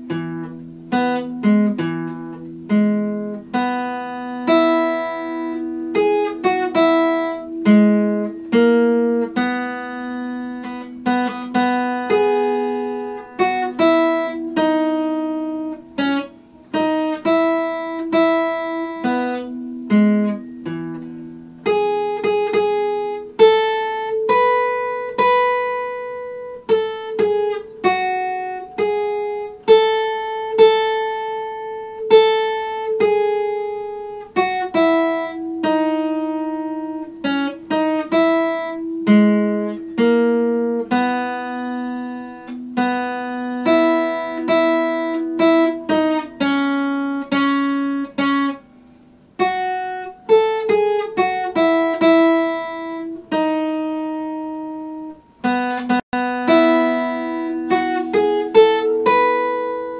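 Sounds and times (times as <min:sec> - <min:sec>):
acoustic guitar picked melody: 0:00.0 - 0:59.9.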